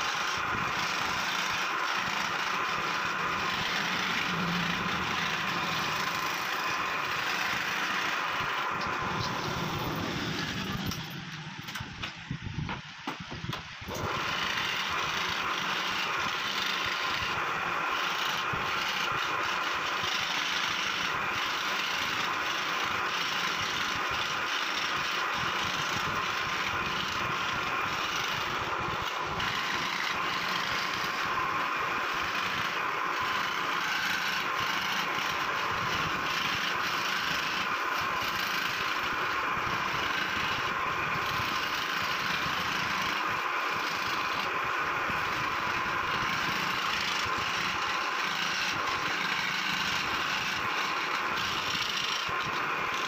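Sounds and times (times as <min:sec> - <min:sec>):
scroll saw cutting wood: 0:00.0 - 0:53.0.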